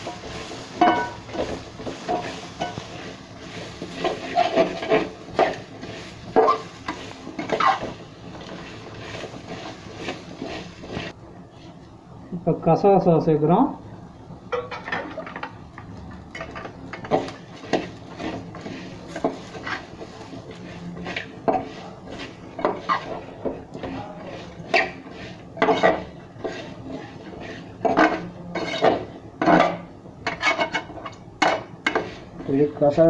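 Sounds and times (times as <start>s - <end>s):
metal spoon scraping a pot: 0.0s - 11.2s, 16.4s - 33.0s.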